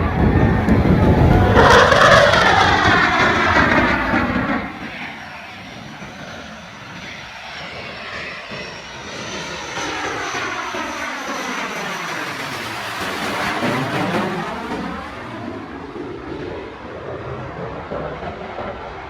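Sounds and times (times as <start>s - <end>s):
aircraft engine passing: 0.0s - 19.0s
high engine whine: 0.0s - 19.0s.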